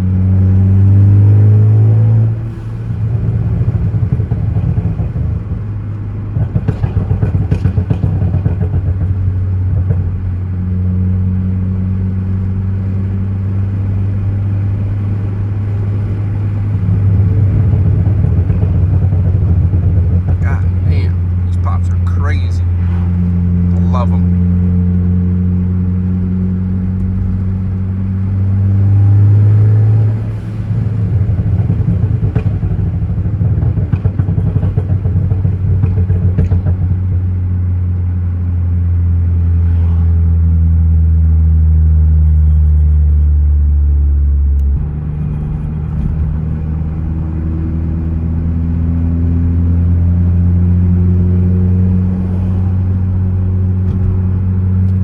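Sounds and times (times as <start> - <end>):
car engine: 0.0 - 55.0
exhaust crackles and pops: 0.0 - 55.0.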